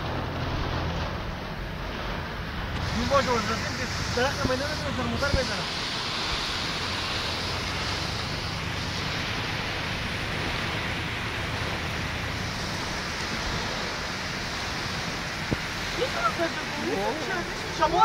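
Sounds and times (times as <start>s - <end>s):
heavy rain on a vehicle: 0.0s - 18.0s
low engine hum: 0.0s - 18.0s.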